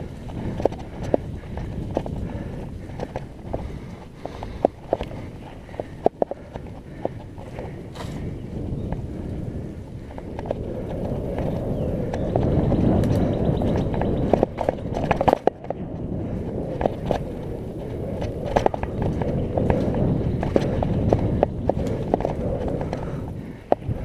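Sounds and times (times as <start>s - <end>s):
bike rattling over bumps: 0.0s - 24.0s
bike tyres rumbling on dirt trail: 0.0s - 24.0s.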